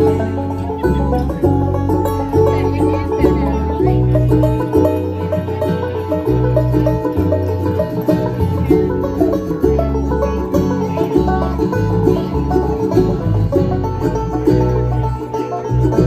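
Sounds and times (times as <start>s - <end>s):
bluegrass band playing: 0.0s - 16.0s.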